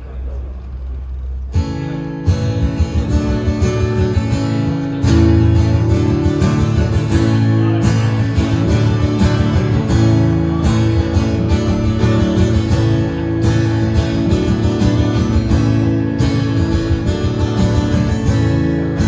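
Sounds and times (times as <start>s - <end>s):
strummed guitar: 0.0s - 19.0s
live band playing: 1.6s - 19.0s.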